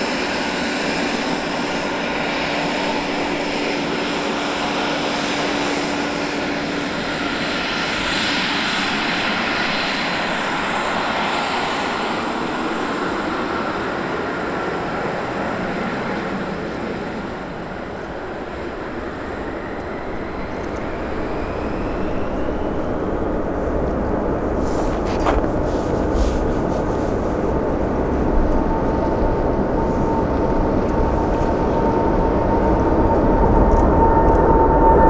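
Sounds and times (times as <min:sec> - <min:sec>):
jet engine whine rising: 0:00.0 - 0:35.0
jet engines deep rumble: 0:00.0 - 0:35.0.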